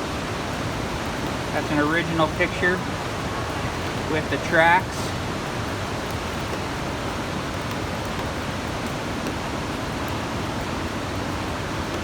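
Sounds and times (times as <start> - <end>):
fast river water rushing: 0.0 - 12.0.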